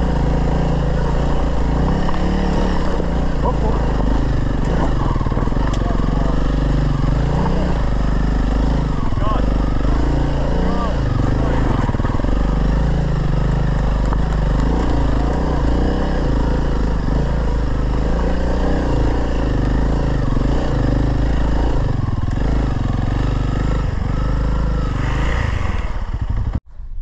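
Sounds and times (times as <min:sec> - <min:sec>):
motorcycle engine revving uphill: 0:00.0 - 0:26.7.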